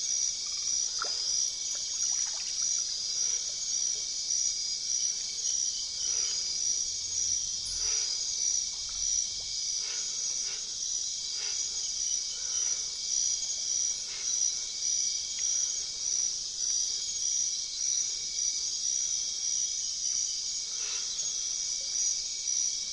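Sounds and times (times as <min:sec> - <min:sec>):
forest insects chorus: 0:00.0 - 0:22.9.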